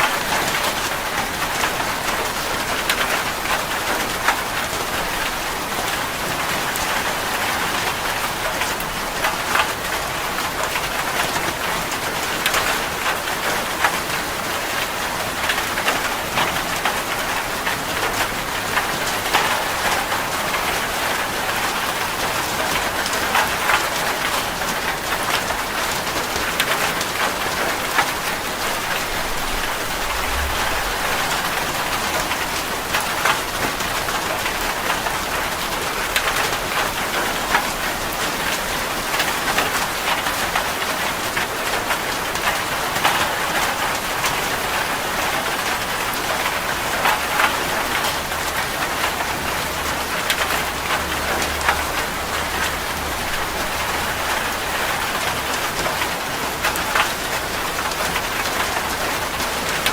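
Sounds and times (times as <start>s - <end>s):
heavy rain on metal roof: 0.0s - 59.9s.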